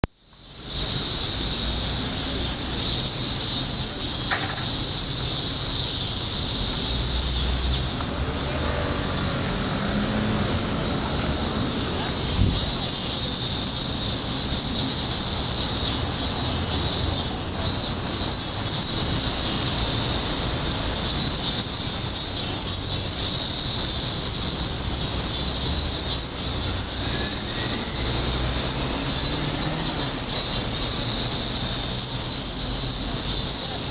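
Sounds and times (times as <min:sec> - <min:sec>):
cicadas buzzing: 0:00.0 - 0:33.9.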